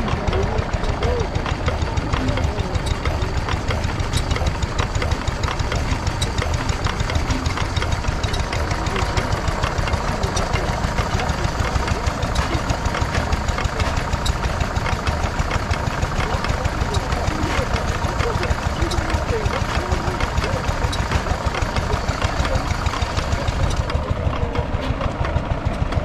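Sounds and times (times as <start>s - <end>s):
stationary engine knocking: 0.0s - 26.0s.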